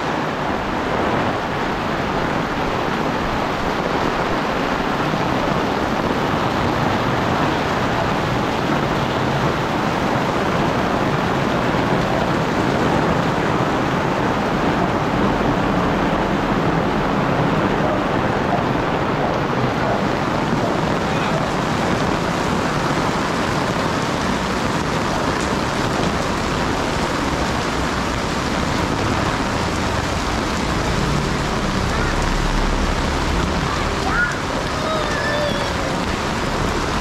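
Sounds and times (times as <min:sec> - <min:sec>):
heavy rain on an umbrella: 0:00.0 - 0:37.0.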